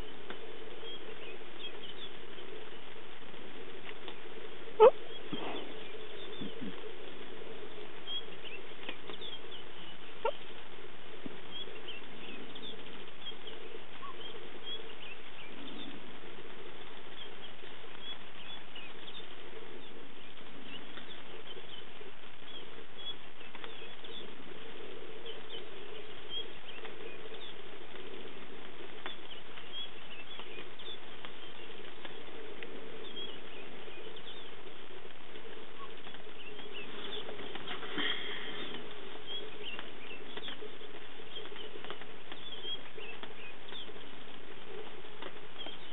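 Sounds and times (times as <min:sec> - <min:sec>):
light rain patter: 0:00.0 - 0:45.9.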